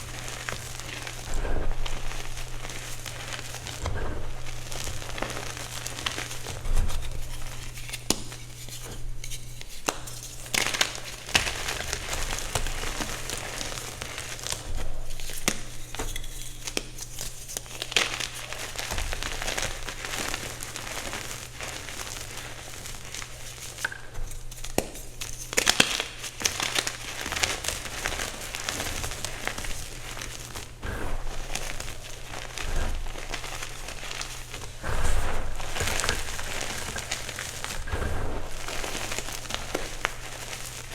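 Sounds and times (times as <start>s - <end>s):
chalk crunching and crumbling: 0.0s - 40.9s.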